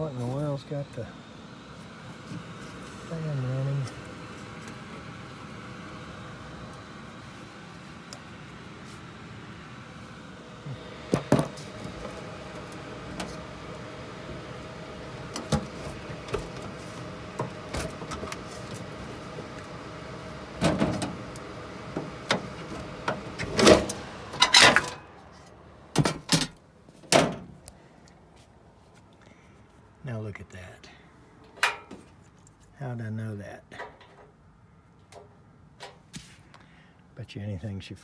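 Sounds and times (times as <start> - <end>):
furnace blower humming: 0.0 - 37.7.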